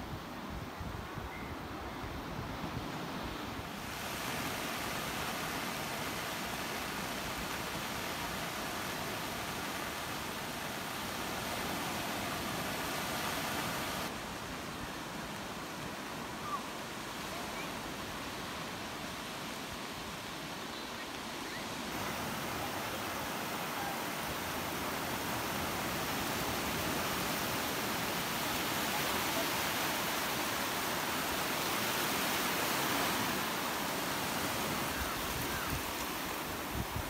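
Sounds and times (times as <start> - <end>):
sea surf washing in: 2.2 - 20.6, 21.2 - 37.0.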